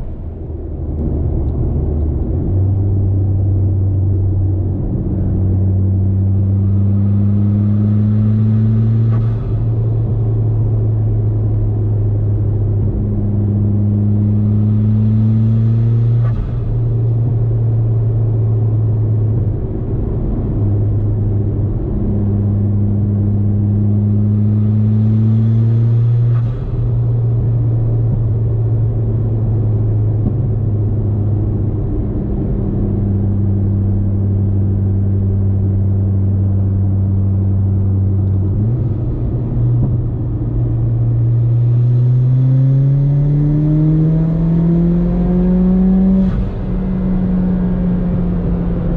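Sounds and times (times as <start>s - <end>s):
car engine droning: 0.0s - 48.9s.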